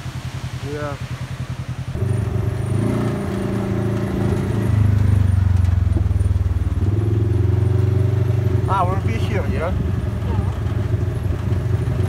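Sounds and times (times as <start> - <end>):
buggy engine rumbling: 0.0 - 12.0.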